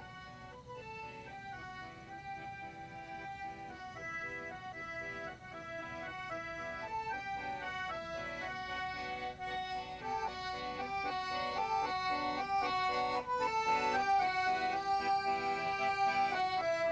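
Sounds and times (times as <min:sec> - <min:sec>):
instrumental melody of held notes: 0:00.0 - 0:16.9.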